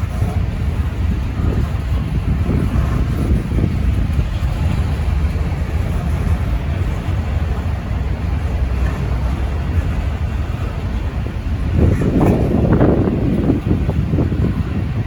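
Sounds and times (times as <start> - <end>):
freight train rumbling past: 0.0 - 15.0
wind buffeting microphone: 0.0 - 15.0.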